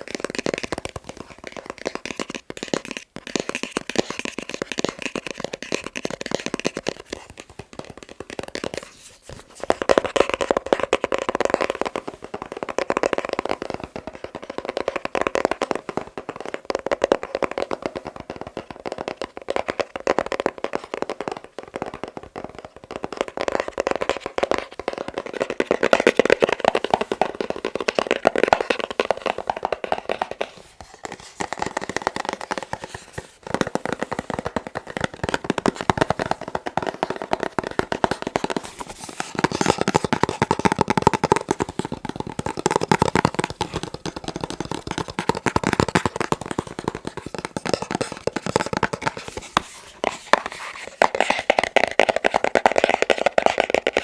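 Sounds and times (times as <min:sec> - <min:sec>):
fingertips tapping on a box: 0:00.0 - 0:54.0.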